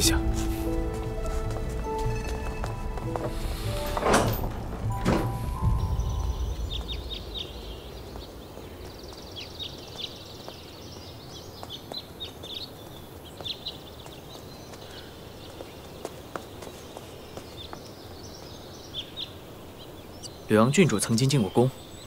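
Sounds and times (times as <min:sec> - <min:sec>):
birds chirping: 0:00.0 - 0:22.0
outdoor background noise: 0:00.0 - 0:22.0.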